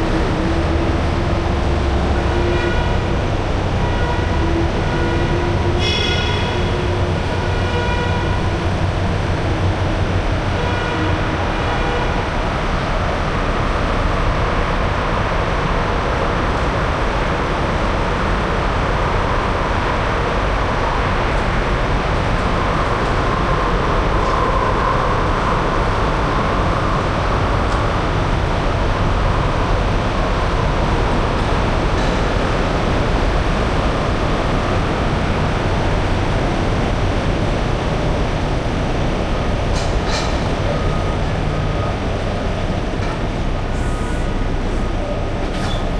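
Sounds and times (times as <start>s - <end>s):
road and wind noise: 0.0s - 45.9s
truck engine drone: 0.0s - 45.9s.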